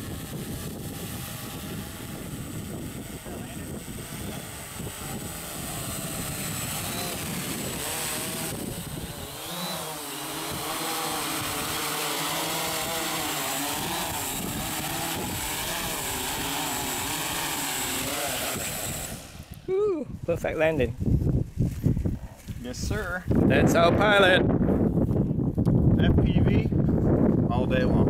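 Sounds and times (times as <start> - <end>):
quadcopter propellers buzzing: 0.0 - 25.1
wind rumbling on microphone: 0.0 - 28.0.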